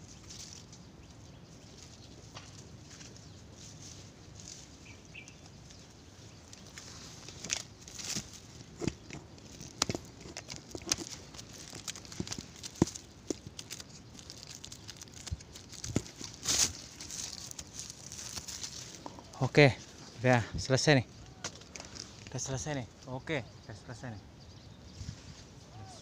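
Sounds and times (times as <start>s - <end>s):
leaves and stems rustling: 0.0s - 24.2s, 24.8s - 26.0s.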